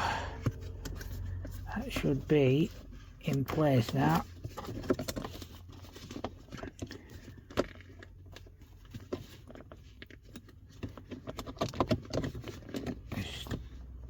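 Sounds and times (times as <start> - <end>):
hands handling leather gaiter: 0.4 - 14.0.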